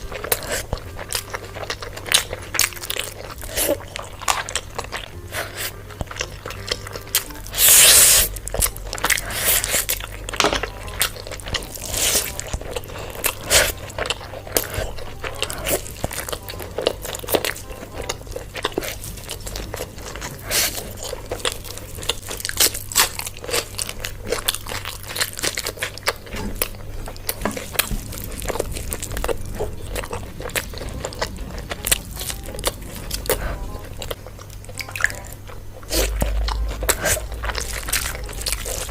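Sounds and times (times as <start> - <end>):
background music: 0.0 - 38.9
crunchy chewing: 0.0 - 38.9.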